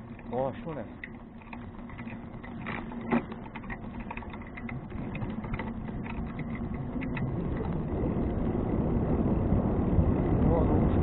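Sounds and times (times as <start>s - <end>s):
bicycle clicking and rattling: 0.0s - 9.0s.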